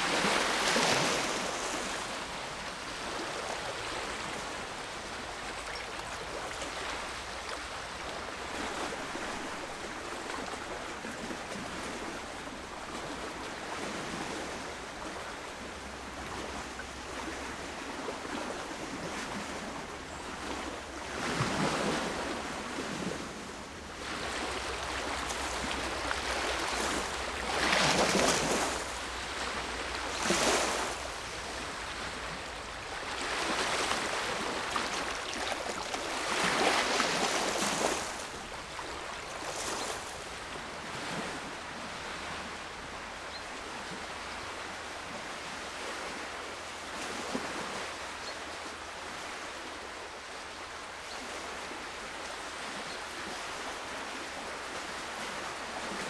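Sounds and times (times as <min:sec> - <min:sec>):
lake waves washing on shore: 0:00.0 - 0:56.0.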